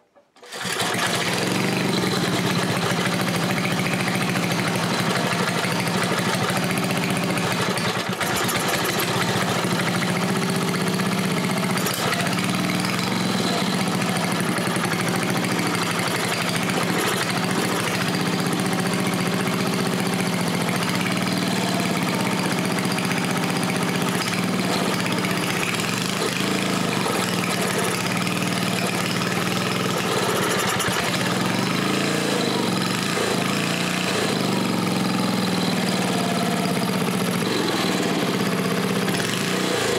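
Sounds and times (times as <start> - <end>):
small engine running steadily: 0.4 - 39.9.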